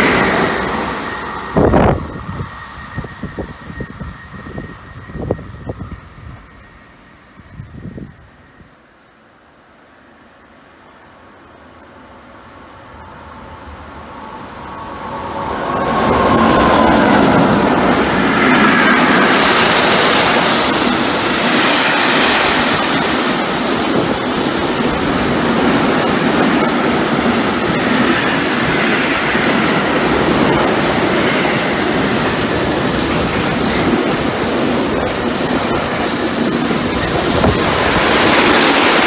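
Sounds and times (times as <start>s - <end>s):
freight train wheels rushing on rails: 0.0s - 39.0s.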